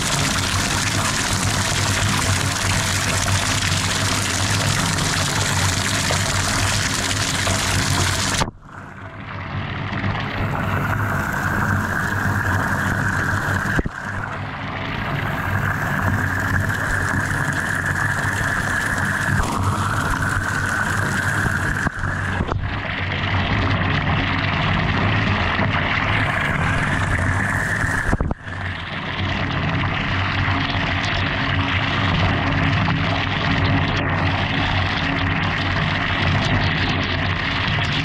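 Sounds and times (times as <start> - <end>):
water pouring into bathtub: 0.0 - 38.0.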